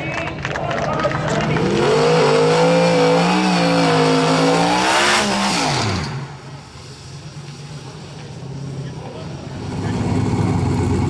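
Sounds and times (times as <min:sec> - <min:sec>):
racing car engine at full throttle: 0:00.4 - 0:11.0.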